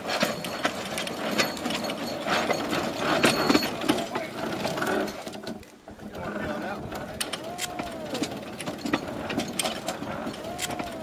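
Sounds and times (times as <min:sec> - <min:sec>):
handcar wheels clattering on track: 0:00.0 - 0:11.0.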